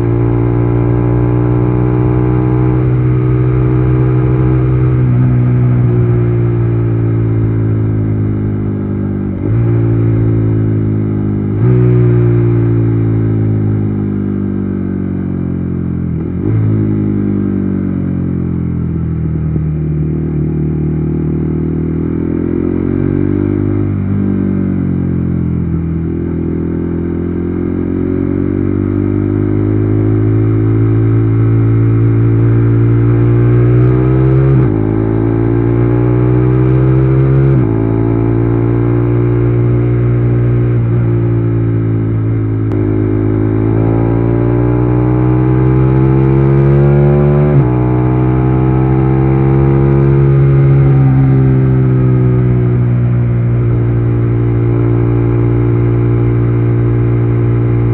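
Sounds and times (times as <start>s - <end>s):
motorcycle engine shifting gears: 0.0s - 15.4s, 18.7s - 57.9s.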